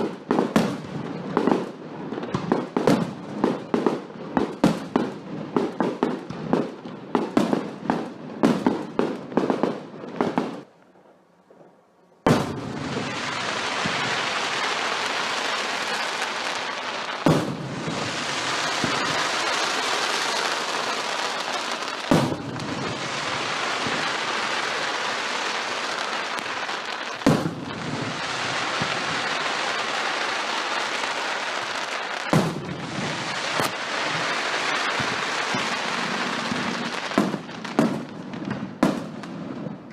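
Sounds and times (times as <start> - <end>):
fireworks bangs and pops: 0.0 - 10.7, 11.4 - 39.9
fireworks crackle: 0.0 - 39.9.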